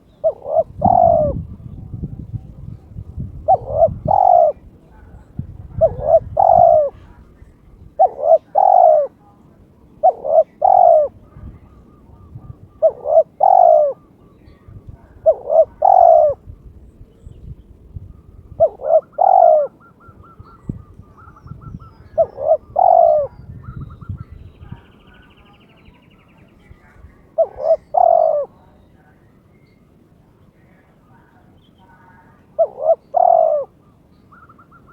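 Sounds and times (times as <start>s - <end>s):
dove cooing: 0.0s - 9.3s, 9.9s - 16.5s, 18.1s - 26.2s, 26.9s - 28.8s, 32.4s - 34.9s.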